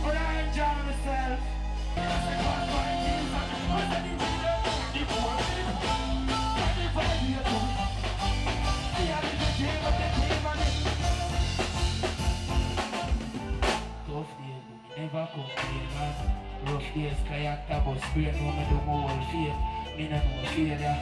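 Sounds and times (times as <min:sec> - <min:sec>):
live reggae band: 0:00.0 - 0:21.0.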